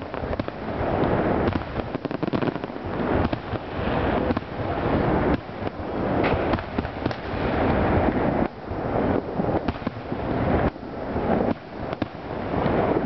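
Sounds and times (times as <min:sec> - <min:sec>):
fireworks sharp cracks: 0:00.0 - 0:08.5, 0:09.5 - 0:13.0
rumble of fireworks booms: 0:00.0 - 0:13.0.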